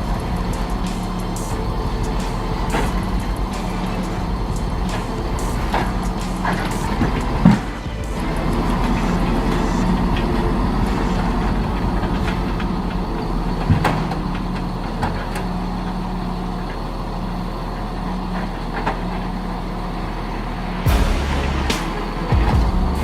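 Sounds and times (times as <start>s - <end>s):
large truck engine running: 0.0s - 23.0s.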